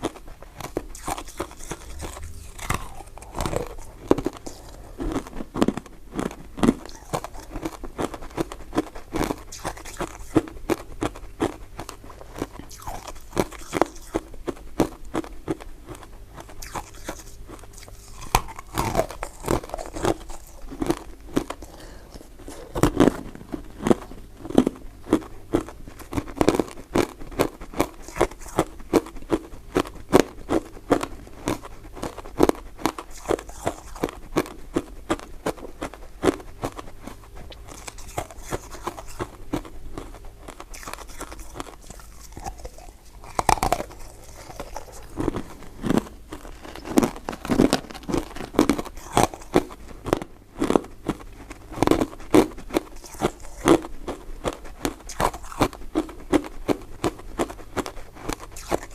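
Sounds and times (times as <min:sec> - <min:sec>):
chewing mouth clicks and smacks: 0:00.0 - 0:58.9.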